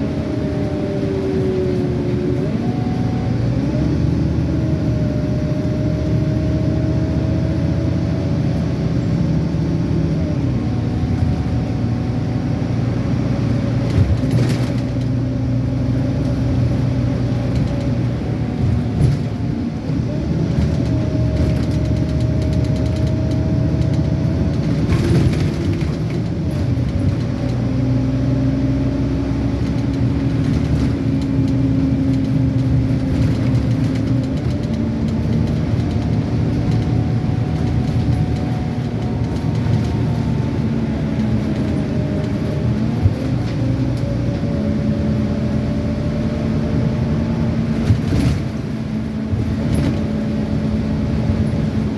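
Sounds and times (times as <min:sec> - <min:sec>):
bus diesel engine running: 0:00.0 - 0:51.9.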